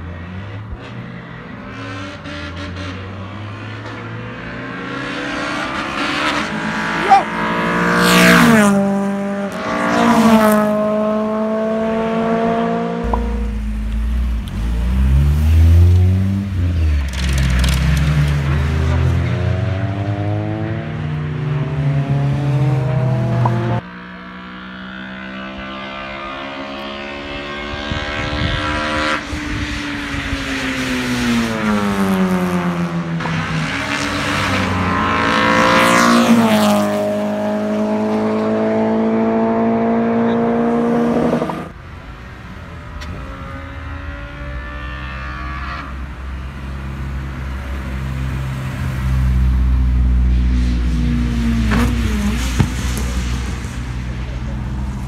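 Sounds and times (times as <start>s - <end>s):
car engines revving: 0.0s - 55.0s
car passing close: 0.2s - 55.0s.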